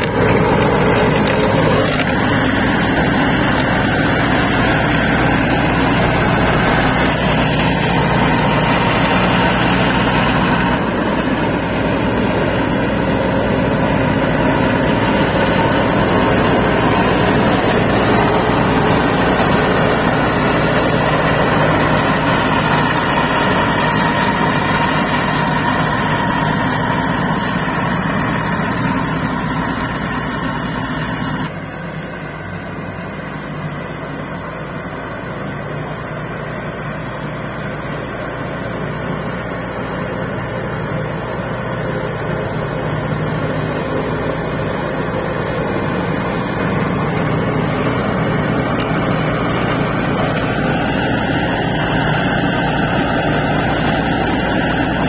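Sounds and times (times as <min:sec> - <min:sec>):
mower deck cutting grass: 0:00.0 - 0:55.0
mower diesel engine running: 0:00.0 - 0:55.0.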